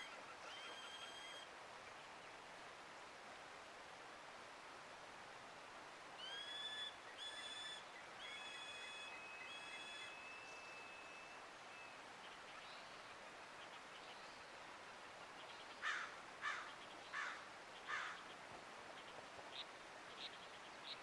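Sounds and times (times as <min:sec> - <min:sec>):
gentle river rushing: 0:00.0 - 0:21.0.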